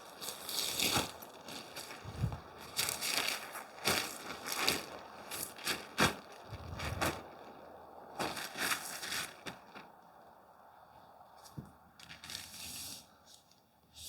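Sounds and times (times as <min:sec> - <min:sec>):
tent fabric rustling: 0:00.0 - 0:09.9, 0:12.1 - 0:13.5.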